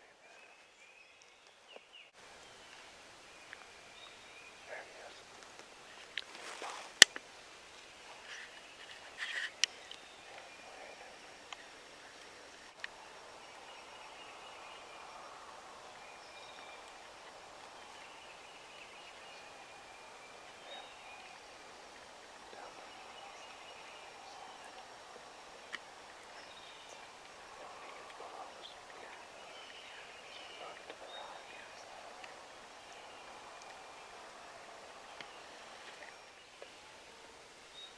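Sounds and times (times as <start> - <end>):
quiet hiss: 0.0 - 37.9
songbirds calling: 0.0 - 37.9.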